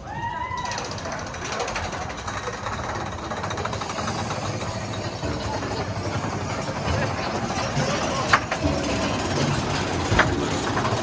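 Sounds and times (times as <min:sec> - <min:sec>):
roller coaster clattering on track: 0:00.0 - 0:11.0.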